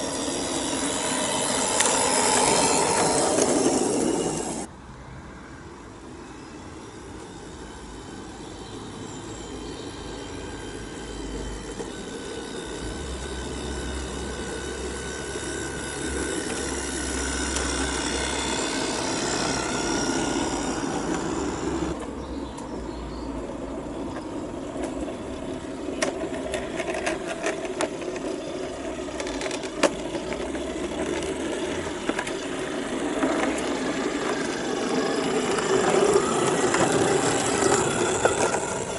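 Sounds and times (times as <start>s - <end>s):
model train motor whining: 0.0s - 4.7s, 6.7s - 22.8s, 23.4s - 38.9s
wheels clicking on track: 0.0s - 4.7s, 6.3s - 38.9s.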